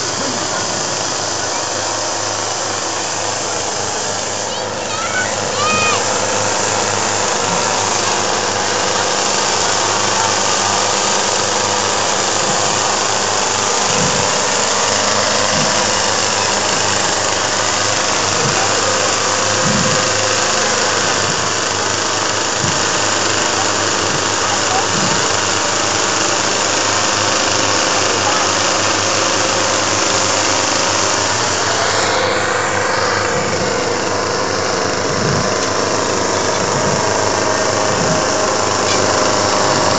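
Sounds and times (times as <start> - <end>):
chainsaw engines idling: 0.0 - 39.9.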